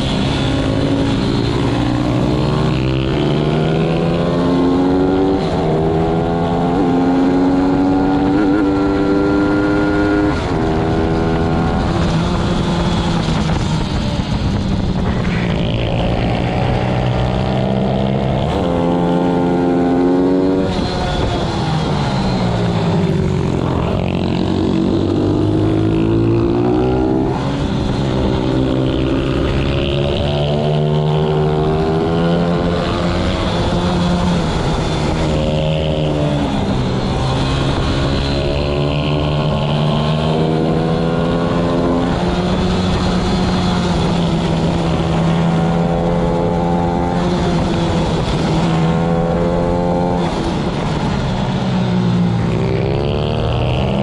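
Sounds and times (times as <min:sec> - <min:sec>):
other pit bikes nearby: 0:00.0 - 0:19.3, 0:20.0 - 0:54.0.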